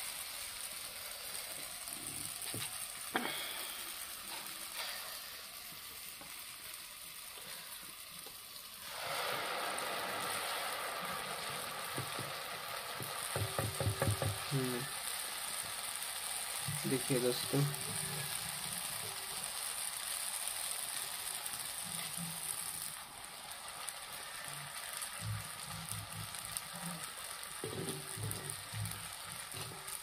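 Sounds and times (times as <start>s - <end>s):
hot oil sizzling: 0.0s - 30.0s.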